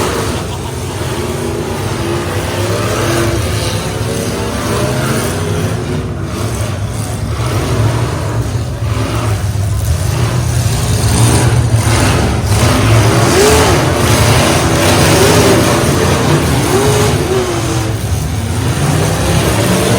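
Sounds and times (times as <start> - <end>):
truck engines revving: 0.0 - 19.9.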